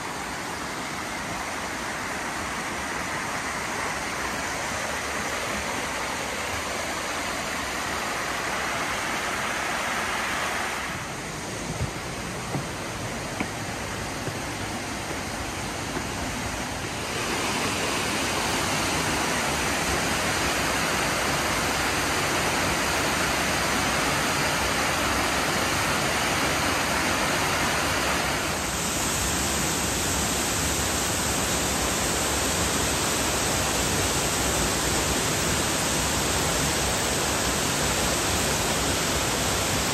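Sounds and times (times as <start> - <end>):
mountain stream and waterfall rushing: 0.0 - 39.9.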